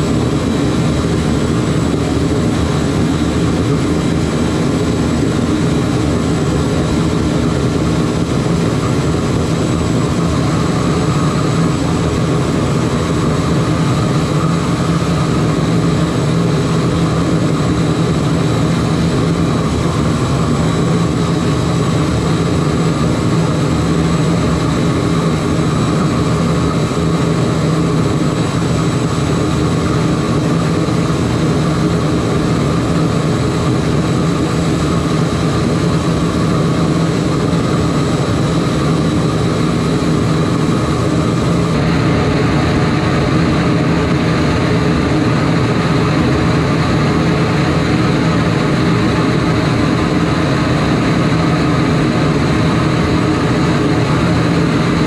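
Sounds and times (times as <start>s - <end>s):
burner roaring: 0.0s - 55.0s.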